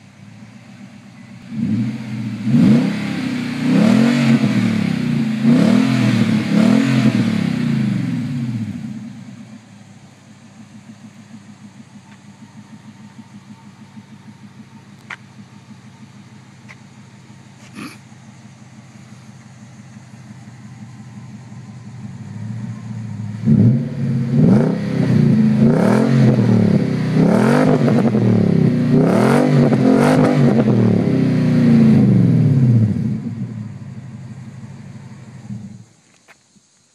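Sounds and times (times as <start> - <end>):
engine idling and revving: 0.0 - 36.8.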